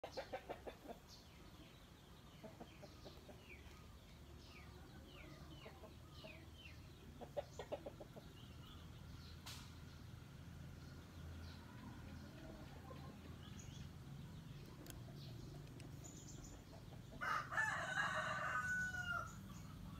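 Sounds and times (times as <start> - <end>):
chickens clucking faintly: 0.0 - 19.9
small birds chirping: 0.0 - 19.9.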